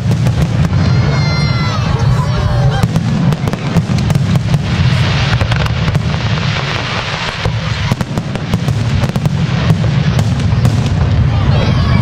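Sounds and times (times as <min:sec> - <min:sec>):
firework bursts and bangs: 0:00.0 - 0:12.0.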